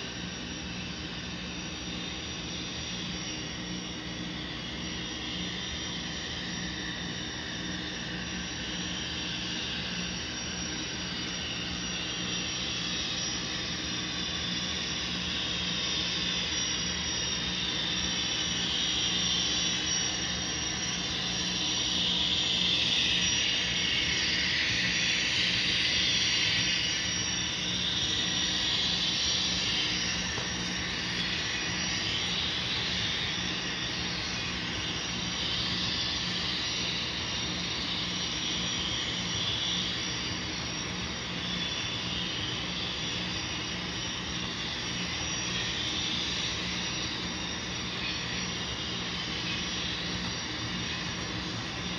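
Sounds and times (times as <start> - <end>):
locomotive turbine whine: 0.0 - 51.9
steady low hum: 0.0 - 51.9.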